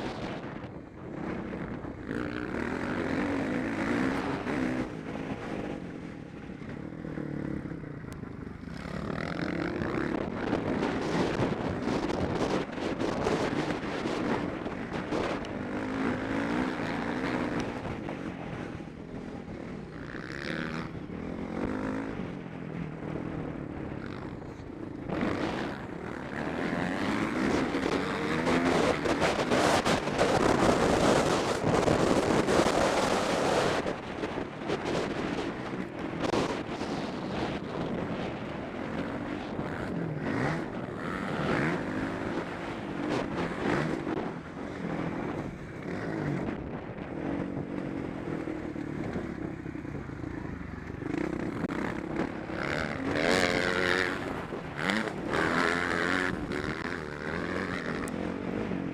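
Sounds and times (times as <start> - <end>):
wind rushing over microphone: 0.0 - 58.9
motocross bike engine revving: 1.2 - 33.9, 34.7 - 58.9.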